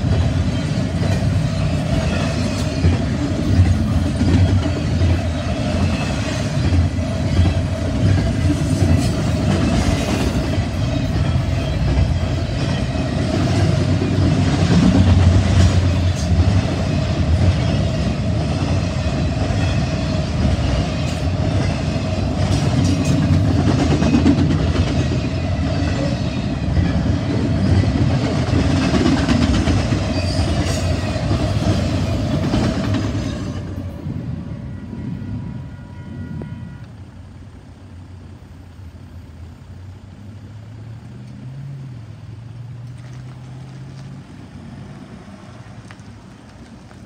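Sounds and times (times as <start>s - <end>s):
freight train rumbling past: 0.0s - 47.0s
low engine hum of traffic: 0.0s - 47.0s.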